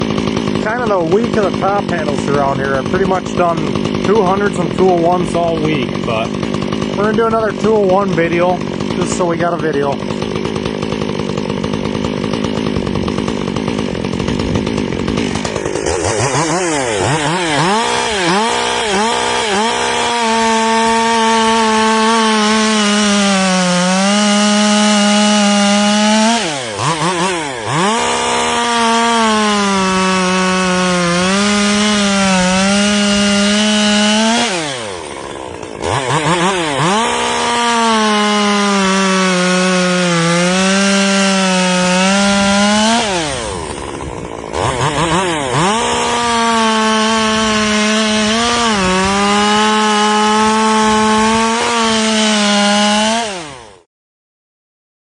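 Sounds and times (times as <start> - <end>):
chainsaw cutting wood: 0.0 - 53.9
chainsaw revving: 0.0 - 53.9.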